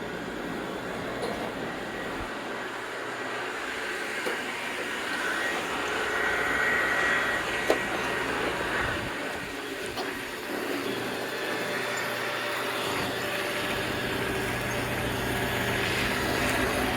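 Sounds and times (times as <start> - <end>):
robot vacuum cleaner whirring: 0.0 - 16.9.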